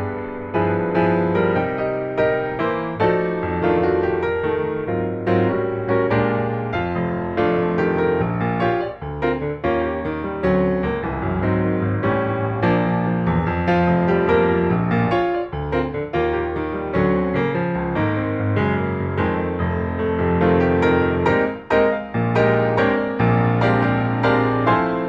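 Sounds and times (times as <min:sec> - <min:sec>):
piano piece: 0:00.0 - 0:25.0.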